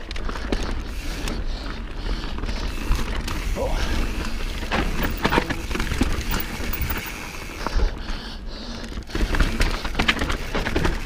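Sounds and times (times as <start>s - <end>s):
bike rattling over bumps: 0.0s - 11.0s
bike tyres on dirt: 0.0s - 11.0s.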